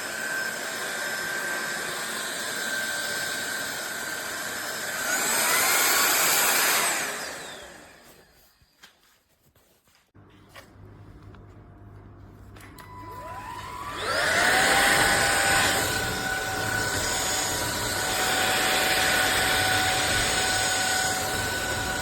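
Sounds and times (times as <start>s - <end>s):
vacuum cleaner whining: 0.0s - 9.1s, 12.5s - 22.0s.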